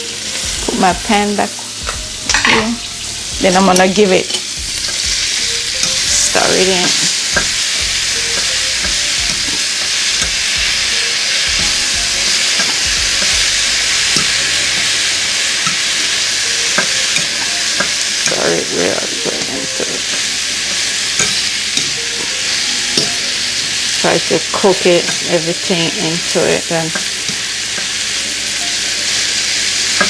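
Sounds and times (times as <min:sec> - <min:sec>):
vegetables sizzling in a pan: 0:00.0 - 0:30.0
spoon scraping a pan: 0:03.5 - 0:28.3.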